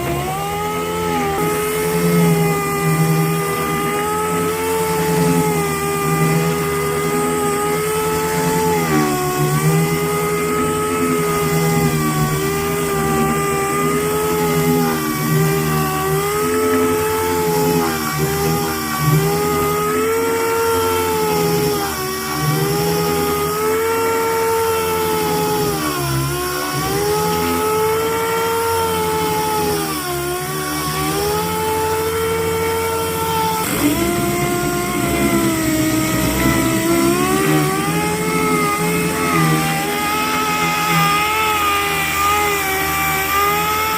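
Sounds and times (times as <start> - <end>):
power sander on car bodywork: 0.0 - 43.9.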